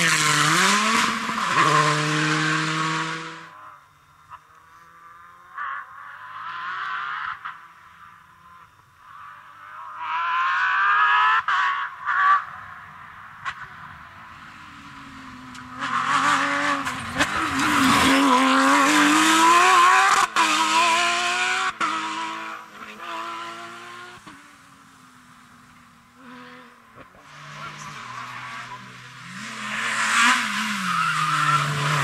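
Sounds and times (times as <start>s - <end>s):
rally car engine at high revs: 0.0s - 32.0s.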